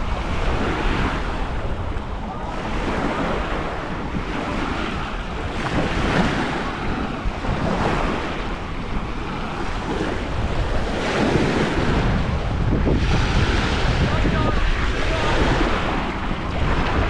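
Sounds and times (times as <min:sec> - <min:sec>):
waves washing onto sand: 0:00.0 - 0:17.0
wind buffeting microphone: 0:00.0 - 0:17.0.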